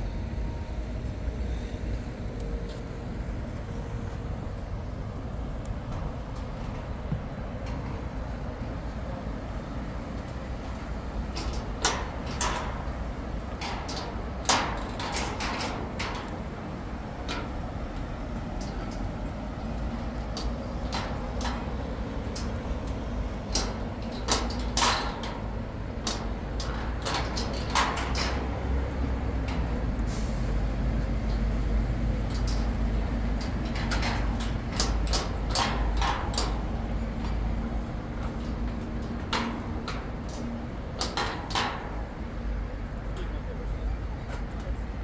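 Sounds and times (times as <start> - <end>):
city traffic rumble: 0.0 - 45.0
faint engine hum: 0.0 - 45.0.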